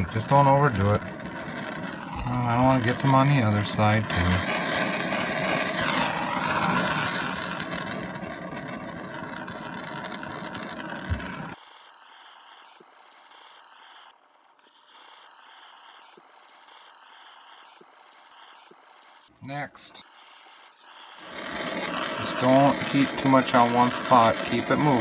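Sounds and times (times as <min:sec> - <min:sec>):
torch flame hissing: 0:00.0 - 0:25.0.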